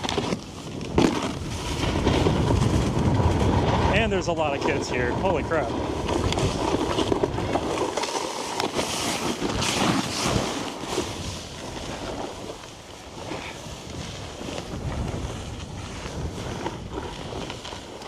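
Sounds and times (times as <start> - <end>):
wind rushing over microphone: 0.0 - 8.0, 9.3 - 18.0
snowboard scraping over icy snow: 0.0 - 18.0.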